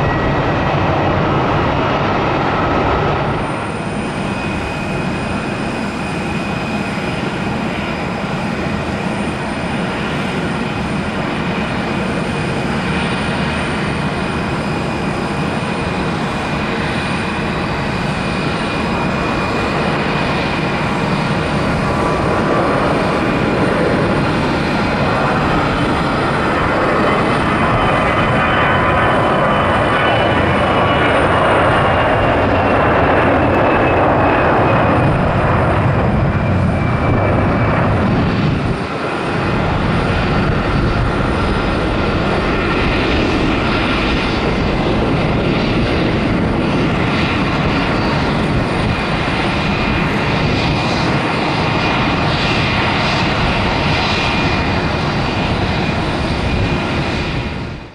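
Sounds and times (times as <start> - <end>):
jet engines at takeoff: 0.0 - 57.9.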